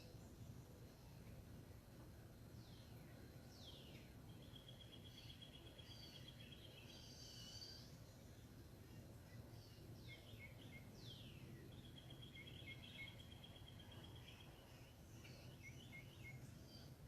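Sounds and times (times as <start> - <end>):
faint birdsong: 0.0 - 17.0
low steady hum: 0.0 - 17.0.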